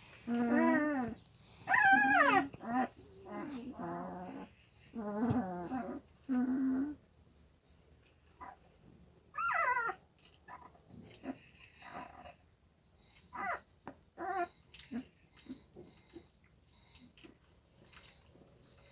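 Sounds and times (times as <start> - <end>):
puppies whining: 0.2 - 7.0, 9.4 - 12.4, 13.3 - 18.9.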